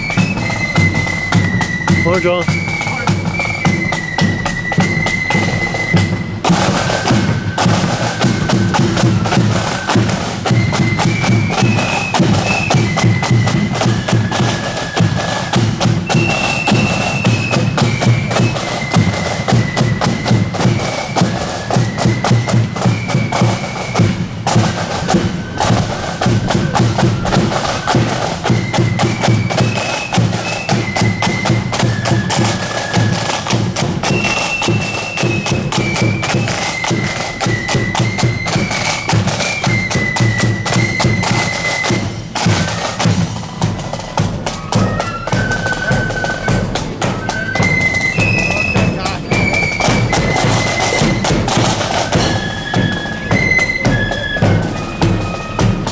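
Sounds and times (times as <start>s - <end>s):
flutes playing melody: 0.0s - 55.9s
rapid snare drumming: 0.0s - 55.9s.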